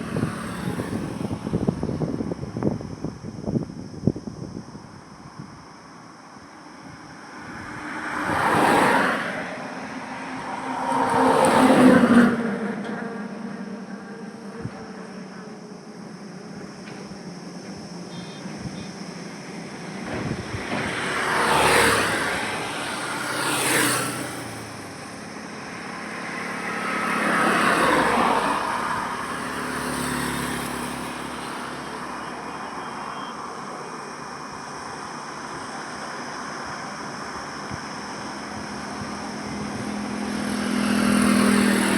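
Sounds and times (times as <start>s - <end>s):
background traffic noise: 0.0s - 41.9s
vehicles passing by: 0.0s - 41.9s.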